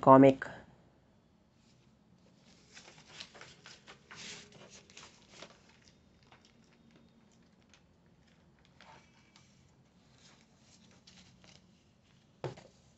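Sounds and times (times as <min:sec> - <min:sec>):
paper pages rustling: 0:01.6 - 0:12.9.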